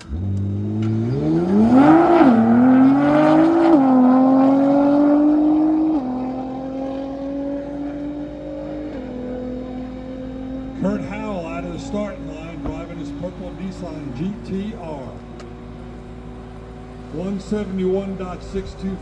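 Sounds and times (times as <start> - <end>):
car accelerating through gears: 0.0 - 19.0.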